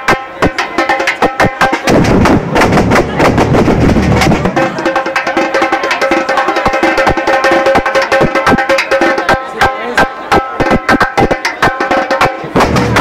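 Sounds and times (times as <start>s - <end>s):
samba drums playing fast rhythm: 0.0s - 13.0s.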